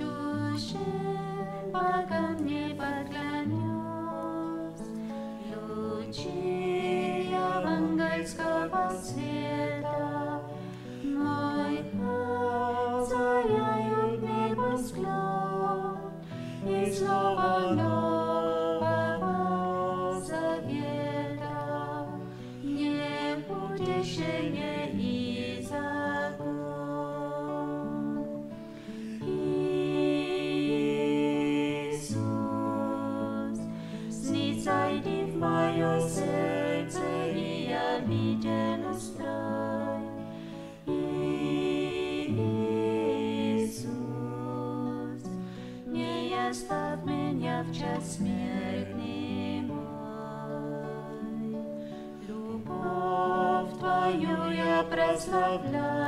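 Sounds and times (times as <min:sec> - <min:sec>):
slow hymn singing: 0:00.0 - 0:56.0.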